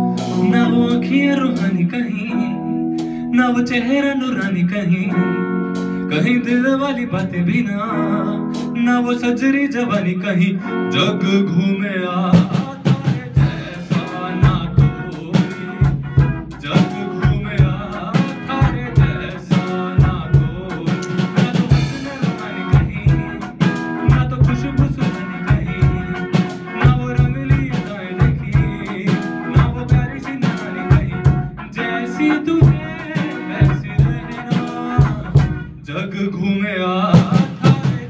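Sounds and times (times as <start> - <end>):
drum kit beat: 0.0 - 7.6, 8.4 - 9.0, 12.3 - 35.9, 37.1 - 38.0
electric guitar: 0.0 - 38.0.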